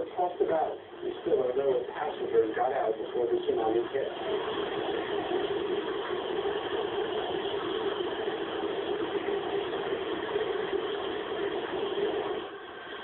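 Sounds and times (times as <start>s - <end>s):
steady engine-like rumble: 0.0s - 13.0s.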